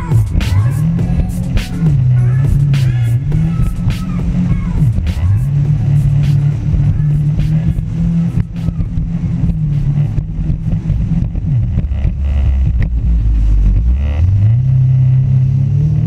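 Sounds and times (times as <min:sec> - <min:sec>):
jet ski engine revving: 0:00.0 - 0:16.0.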